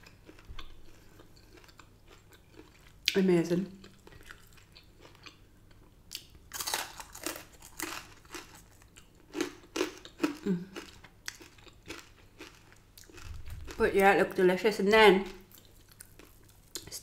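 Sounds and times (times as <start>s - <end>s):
crunching and chewing chicken wings: 0.0s - 3.1s, 3.8s - 13.8s, 15.3s - 16.9s.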